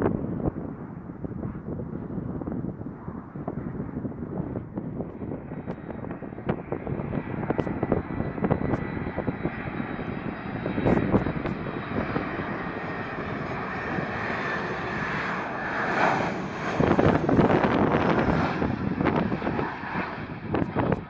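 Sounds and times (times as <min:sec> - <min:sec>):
jet airliner engines rushing: 0:00.0 - 0:21.0
wind on microphone: 0:00.0 - 0:21.0.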